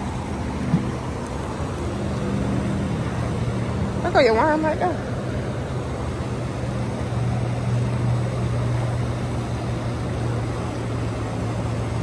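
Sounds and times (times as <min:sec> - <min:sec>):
low engine hum: 0:00.0 - 0:12.0
outdoor background noise: 0:00.0 - 0:12.0.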